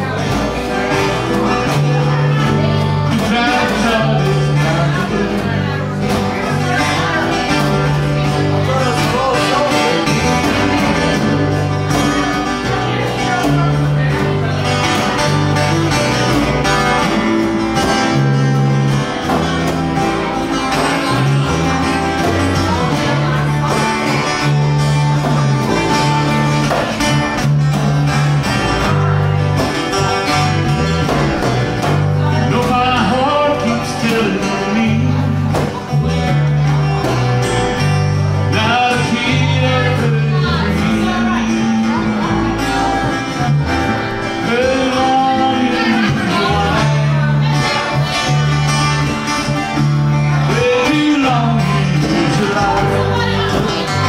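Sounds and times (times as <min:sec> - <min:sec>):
electric bass line: 0:00.0 - 0:54.0
strummed acoustic guitars: 0:00.0 - 0:54.0.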